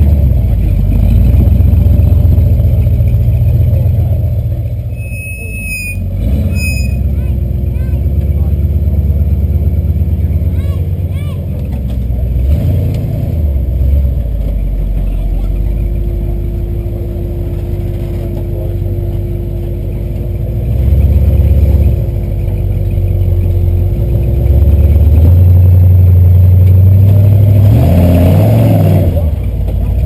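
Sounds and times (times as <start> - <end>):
engine revving under load: 5.9 - 30.0.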